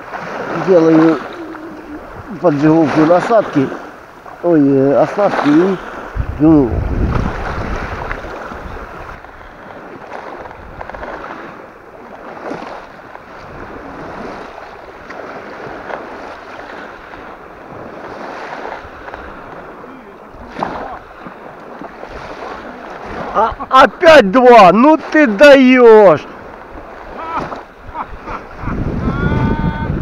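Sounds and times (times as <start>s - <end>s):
small waves washing at shore: 0.0s - 30.0s
steady wind: 0.0s - 30.0s.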